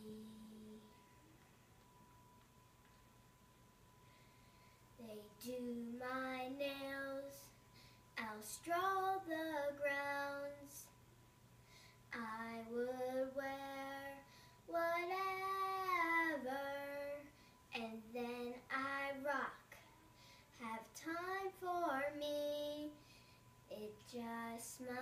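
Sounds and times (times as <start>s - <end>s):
girl singing unaccompanied: 0.0s - 1.1s, 5.0s - 11.0s, 12.1s - 25.0s.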